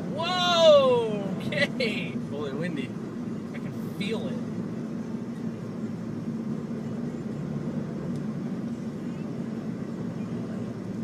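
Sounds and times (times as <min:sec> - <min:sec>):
road and engine hum: 0:00.0 - 0:11.0.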